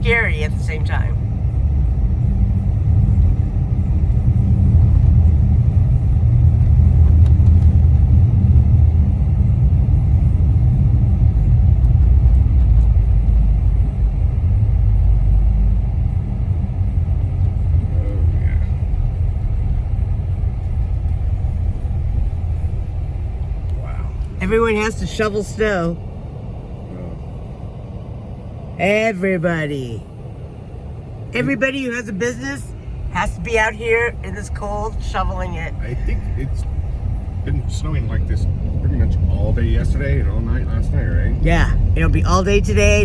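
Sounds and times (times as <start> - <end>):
road and tyre rumble in car: 0.0 - 43.0.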